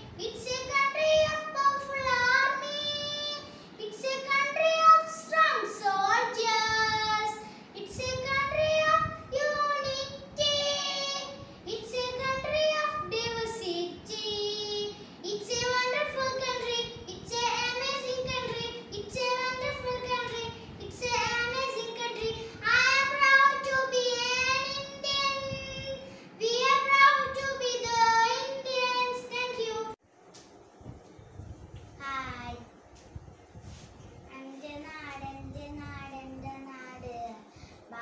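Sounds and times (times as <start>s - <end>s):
girl singing: 0.0s - 30.0s, 34.3s - 38.0s.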